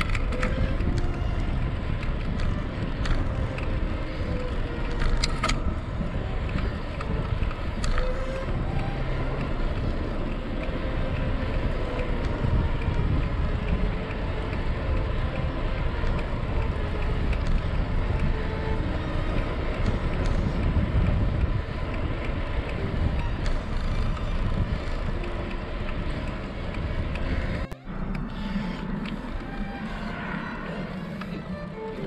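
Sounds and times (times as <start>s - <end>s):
bicycle tyre road rumble: 0.0s - 32.0s
wind buffeting microphone: 0.0s - 32.0s.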